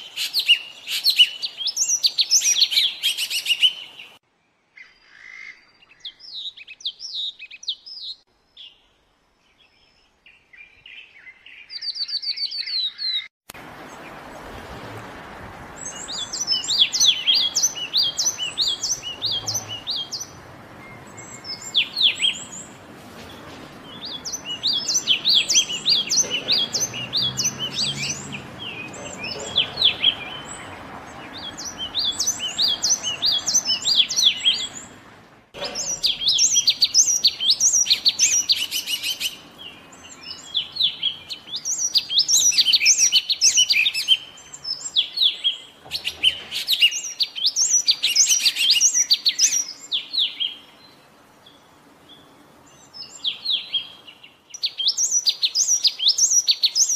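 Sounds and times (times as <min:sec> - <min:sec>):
bird chirping song: 0:00.0 - 0:14.4, 0:15.7 - 0:35.0, 0:35.6 - 0:56.9.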